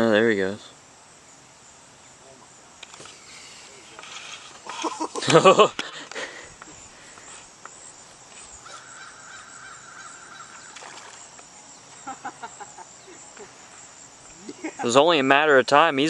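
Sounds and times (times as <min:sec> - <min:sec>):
faint steady buzzing: 0:00.0 - 0:16.0.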